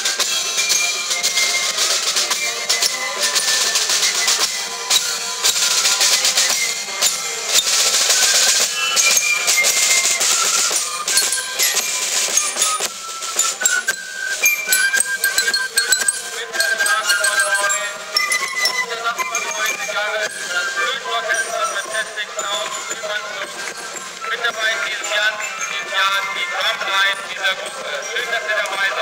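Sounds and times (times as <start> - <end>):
marching band drums and cymbals: 0.0 - 29.0
high melody line: 0.4 - 27.8.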